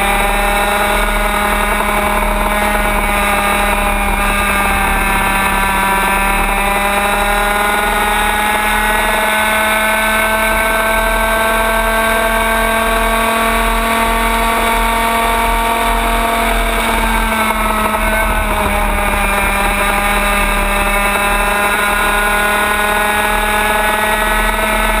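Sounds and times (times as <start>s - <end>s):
kart engine running hard: 0.0s - 25.0s.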